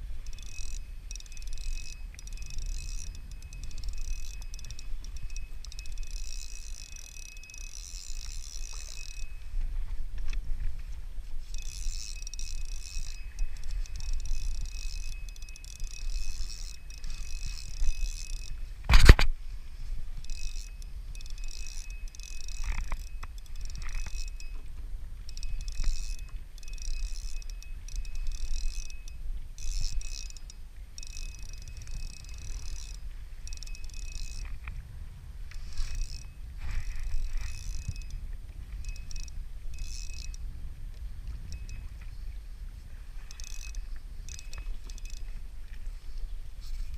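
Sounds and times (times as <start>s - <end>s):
small mechanism whirring: 0.0s - 9.5s, 11.4s - 19.3s, 20.2s - 34.7s, 35.5s - 40.4s, 41.0s - 42.1s, 43.2s - 46.0s
wind rumble on microphone: 0.0s - 46.9s.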